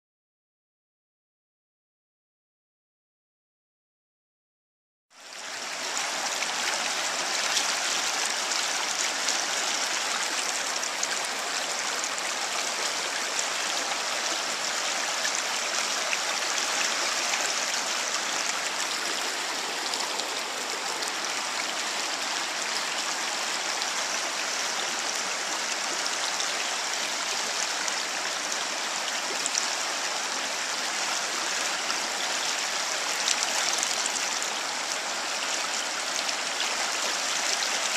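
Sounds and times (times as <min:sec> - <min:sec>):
water rushing over rocks: 0:05.4 - 0:37.9.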